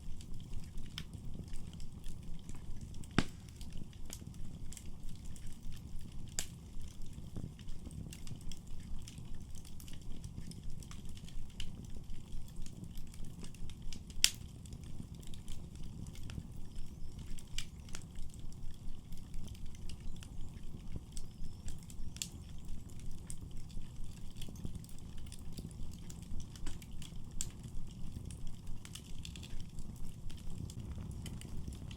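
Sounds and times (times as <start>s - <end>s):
fire rumbling in fireplace: 0.0s - 31.9s
wood fire crackles and pops: 0.0s - 31.9s.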